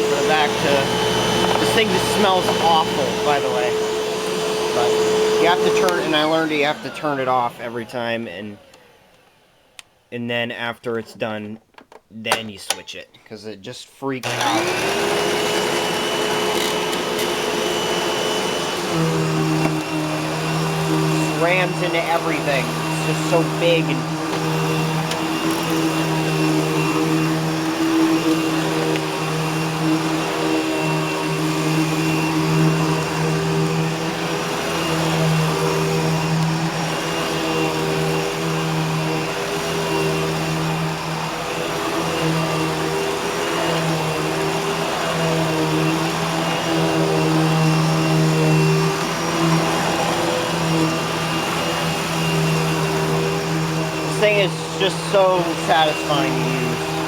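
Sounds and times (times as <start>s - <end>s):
vacuum cleaner running: 0.0s - 10.0s, 14.2s - 57.0s.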